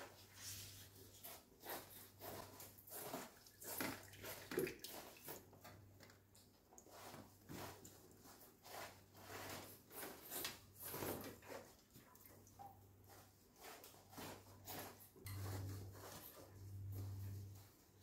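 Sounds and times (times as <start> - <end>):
wet sponge scrubbing: 0.0 - 5.6, 6.8 - 18.0.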